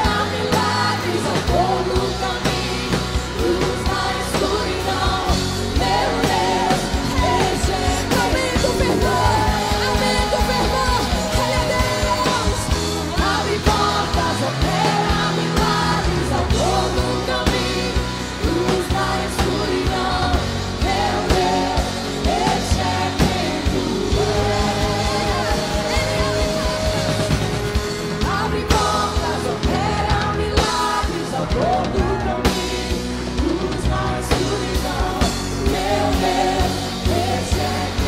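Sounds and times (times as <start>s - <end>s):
band playing with steady beat: 0.0s - 38.0s
women singing: 0.0s - 38.0s.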